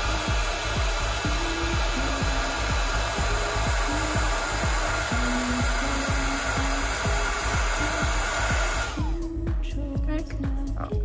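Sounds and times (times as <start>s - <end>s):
heat gun blowing air: 0.0s - 9.3s.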